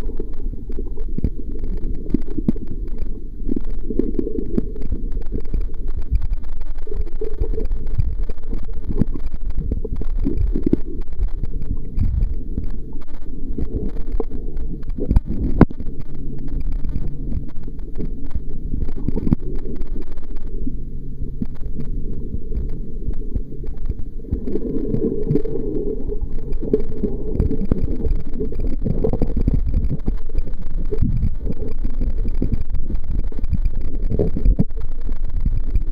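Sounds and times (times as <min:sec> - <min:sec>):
muffled underwater rumble: 0:00.0 - 0:35.9
steady low hum: 0:00.0 - 0:35.9.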